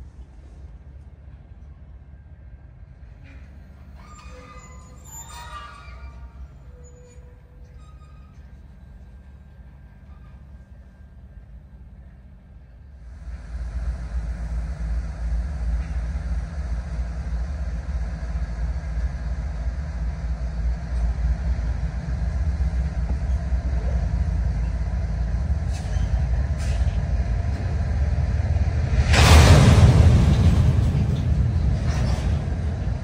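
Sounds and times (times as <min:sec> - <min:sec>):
freight train rumbling past: 0:00.0 - 0:33.0.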